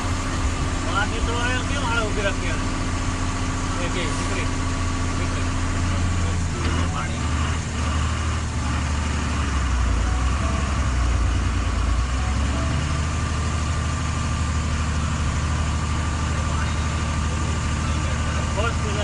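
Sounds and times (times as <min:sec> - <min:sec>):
heavy vehicle engine idling: 0:00.0 - 0:19.0.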